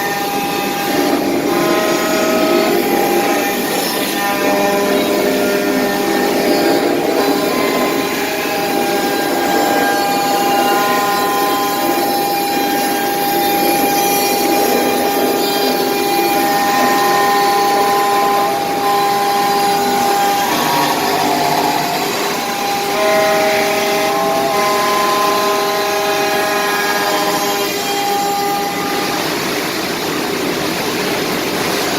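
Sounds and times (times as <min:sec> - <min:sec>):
router cutting wood: 0:00.0 - 0:31.9
router spindle whine: 0:00.0 - 0:31.9.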